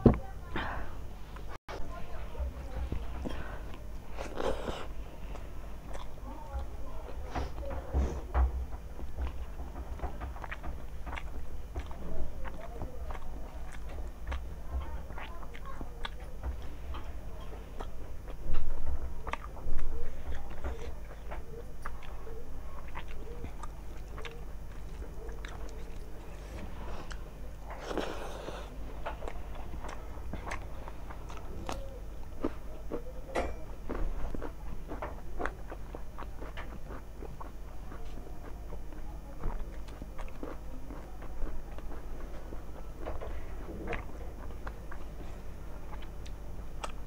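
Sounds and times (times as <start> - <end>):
fingers mixing food on a plate: 1.4 - 47.0
wet chewing: 2.4 - 47.0.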